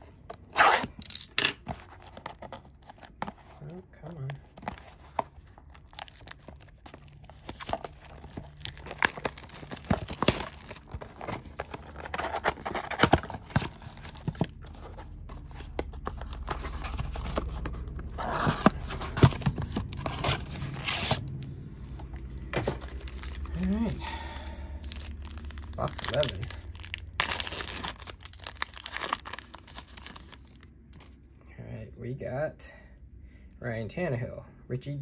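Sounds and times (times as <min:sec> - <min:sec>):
wrapper tearing and crinkling: 0:00.4 - 0:03.2, 0:04.4 - 0:21.3, 0:22.2 - 0:31.2.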